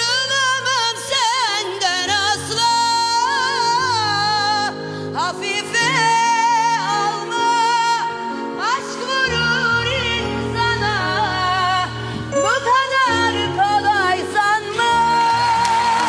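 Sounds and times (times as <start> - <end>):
woman singing: 0.0 - 16.0
sustained instrumental accompaniment: 0.6 - 16.0.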